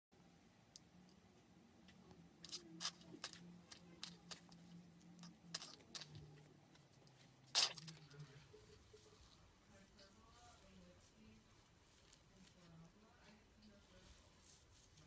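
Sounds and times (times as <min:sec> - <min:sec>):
faint low hum: 0:00.2 - 0:15.0.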